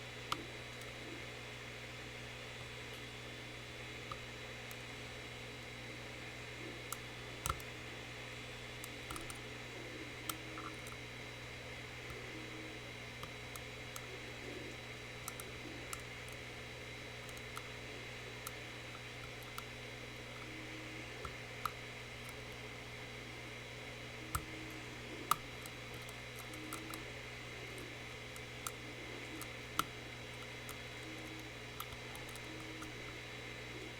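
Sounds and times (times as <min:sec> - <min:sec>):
low hum and hiss: 0:00.0 - 0:33.9.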